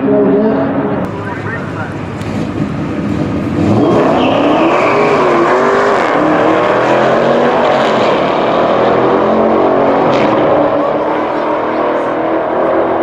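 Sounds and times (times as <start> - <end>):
drag car engine at full throttle: 1.0 - 13.0.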